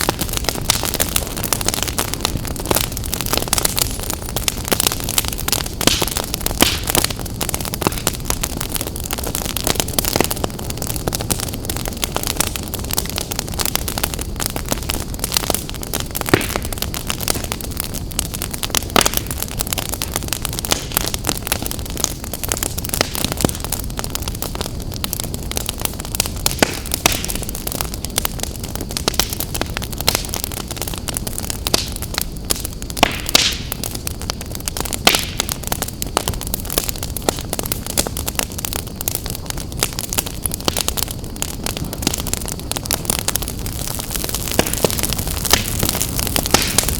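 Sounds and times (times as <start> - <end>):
fire crackling and popping: 0.0 - 46.9
fire roaring and hissing: 0.0 - 46.9.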